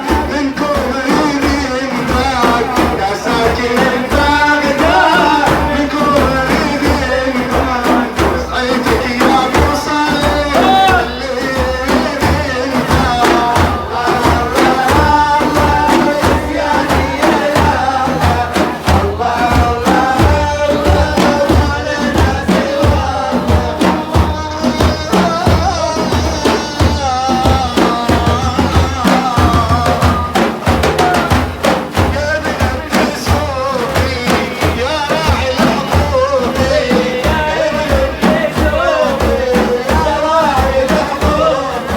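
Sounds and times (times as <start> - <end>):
hand drums beating: 0.0 - 41.9
man singing devotional song: 0.0 - 41.9.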